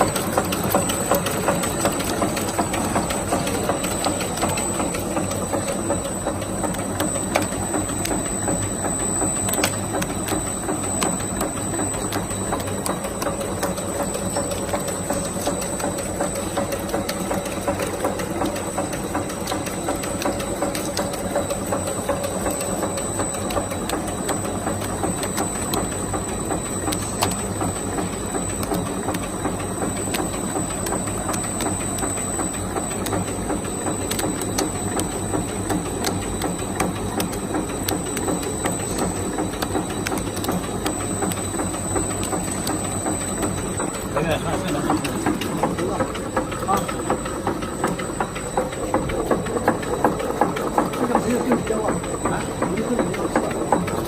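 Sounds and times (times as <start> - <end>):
high mechanical whine: 0.0 - 54.0
machinery clattering: 0.0 - 54.0.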